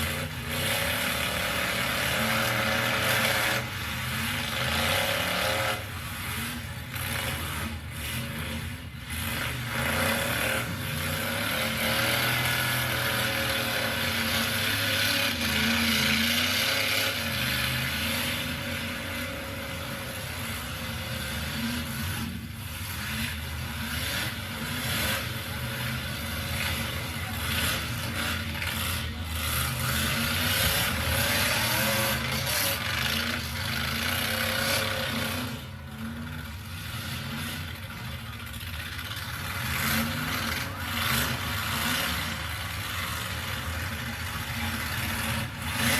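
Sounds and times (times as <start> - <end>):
truck engines revving: 0.0 - 45.9.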